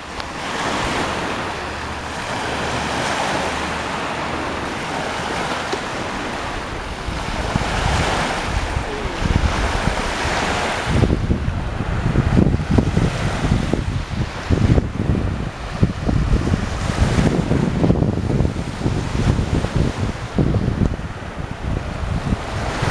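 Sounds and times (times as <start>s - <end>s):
waves washing onto shore: 0.0s - 22.9s
wind buffeting microphone: 0.0s - 22.9s.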